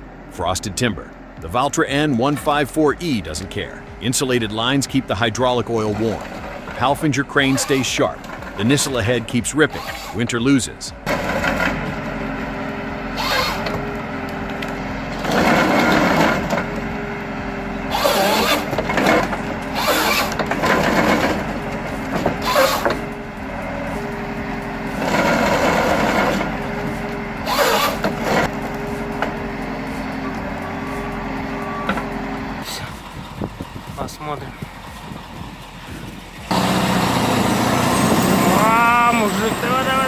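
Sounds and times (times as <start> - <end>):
engine and hydraulic hum: 0.0 - 40.0
harvester head noisy bursts: 0.1 - 40.0.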